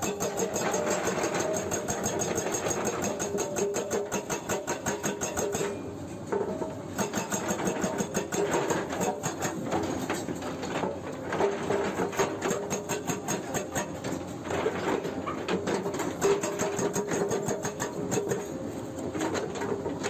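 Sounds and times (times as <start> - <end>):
hydraulic breaker hammering rock: 0.0 - 20.0.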